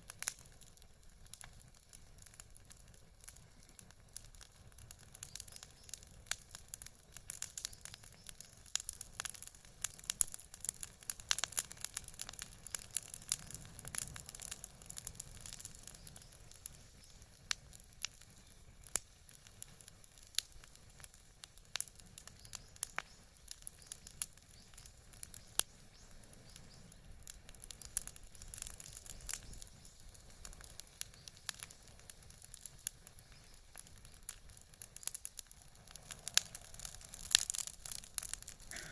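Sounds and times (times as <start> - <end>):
bonfire crackling and popping: 0.0 - 38.9
low hiss of burning: 0.0 - 38.9.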